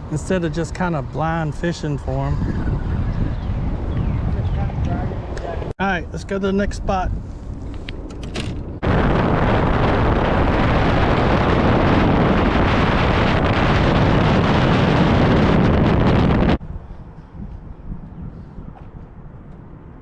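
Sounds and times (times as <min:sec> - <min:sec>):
wind rush over microphone: 0:00.0 - 0:20.0.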